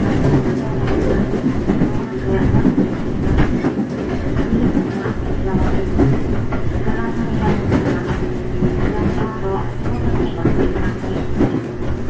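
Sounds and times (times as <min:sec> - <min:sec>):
rail joints clattering: 0:00.0 - 0:12.0
train wheels rumbling on rails: 0:00.0 - 0:12.0.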